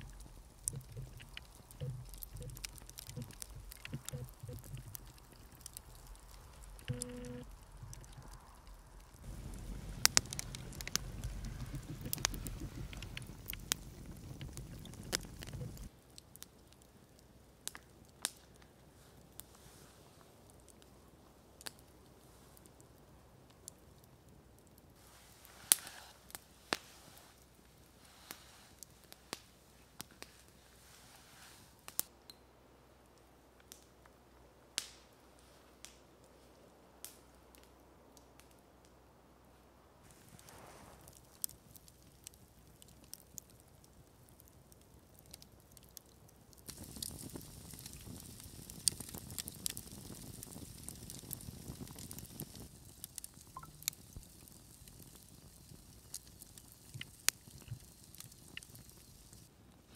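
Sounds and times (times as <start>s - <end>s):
campfire crackling and popping: 0.0s - 31.0s, 31.7s - 32.4s, 33.1s - 35.2s, 35.8s - 36.4s, 37.0s - 39.0s, 40.1s - 59.9s.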